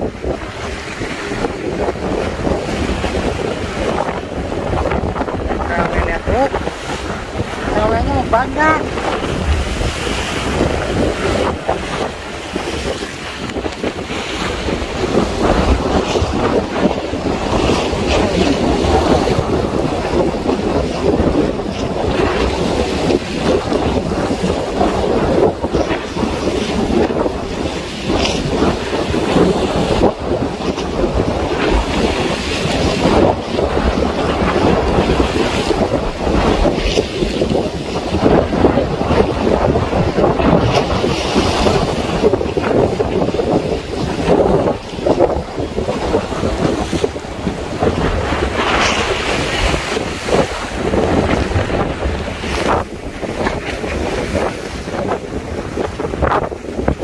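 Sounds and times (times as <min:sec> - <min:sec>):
waves splashing around boat: 0:00.0 - 0:57.0
wind buffeting microphone: 0:00.0 - 0:57.0.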